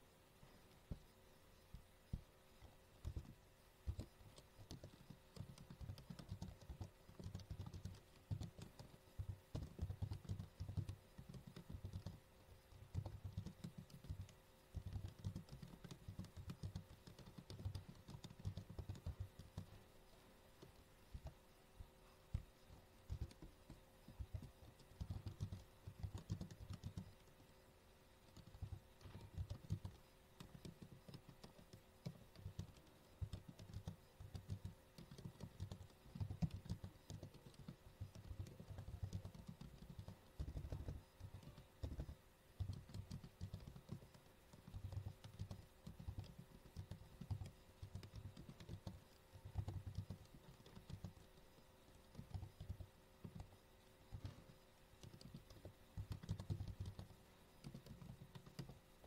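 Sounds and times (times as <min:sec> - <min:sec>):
faint keyboard typing: 0:00.0 - 0:59.0.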